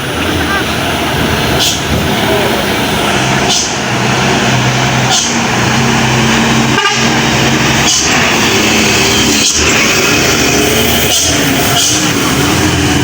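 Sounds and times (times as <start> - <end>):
heavy truck engine droning: 0.0 - 13.0.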